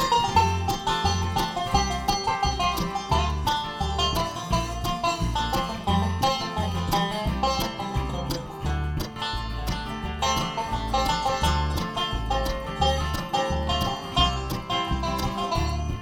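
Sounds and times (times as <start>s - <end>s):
banjo picking: 0.0s - 16.0s
guitar: 0.0s - 16.0s
low bass notes: 0.0s - 16.0s.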